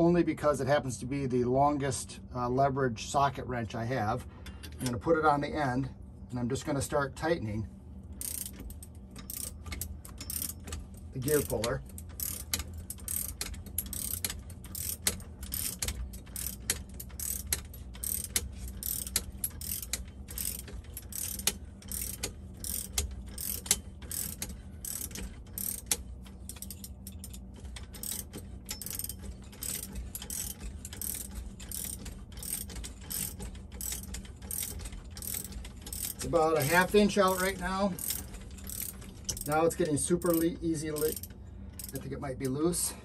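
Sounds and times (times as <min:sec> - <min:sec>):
steady low hum: 0:00.0 - 0:43.0
ratcheting torque wrench clicking: 0:08.1 - 0:42.6.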